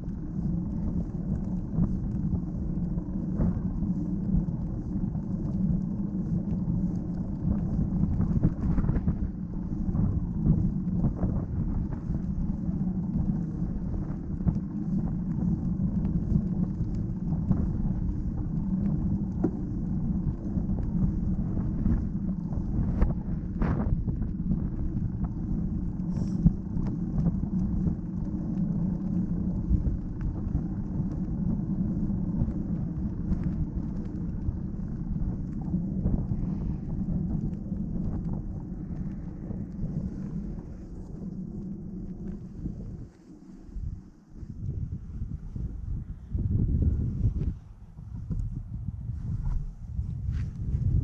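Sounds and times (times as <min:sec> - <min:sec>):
bicycle tyres rolling rumble: 0:00.0 - 0:51.0
wind on camera microphone: 0:00.0 - 0:51.0.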